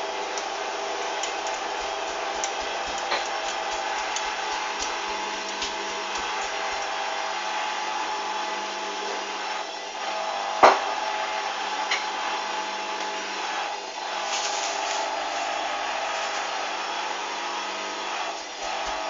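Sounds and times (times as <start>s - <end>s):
washing machine whirring hum: 0.0s - 19.0s.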